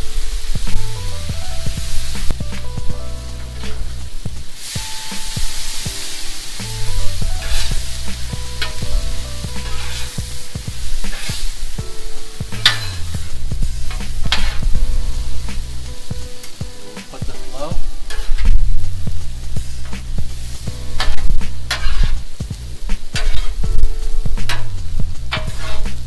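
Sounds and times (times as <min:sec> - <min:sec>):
background music: 0:00.0 - 0:26.0
noodles sizzling on griddle: 0:00.0 - 0:26.0
metal spatula scraping griddle: 0:03.4 - 0:26.0.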